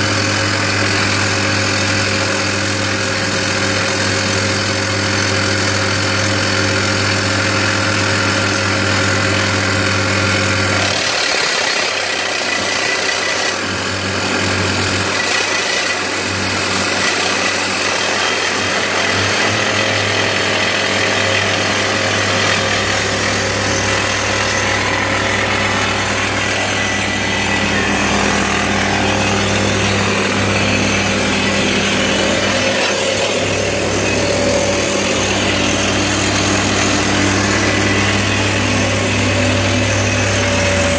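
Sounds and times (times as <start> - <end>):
rig engine running: 0.0 - 40.9
rock drill hammering: 0.0 - 40.9.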